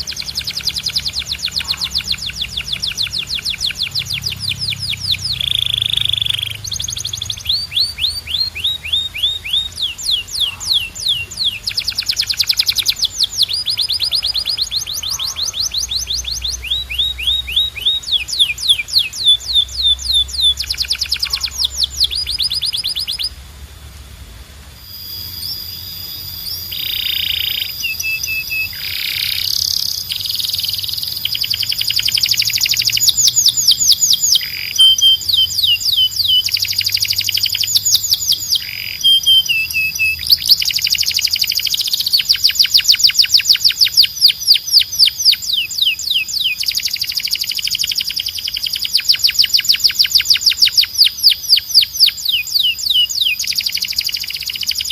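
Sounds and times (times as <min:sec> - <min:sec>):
canary singing trills: 0:00.0 - 0:23.4, 0:24.8 - 0:54.9.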